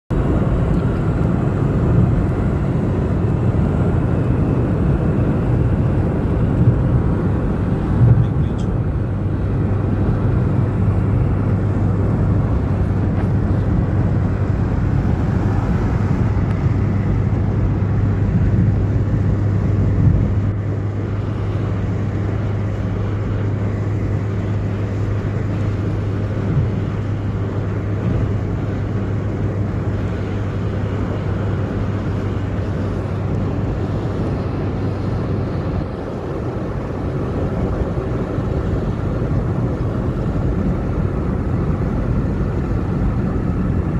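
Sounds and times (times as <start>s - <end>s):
engine and road noise in vehicle: 0.0s - 43.9s.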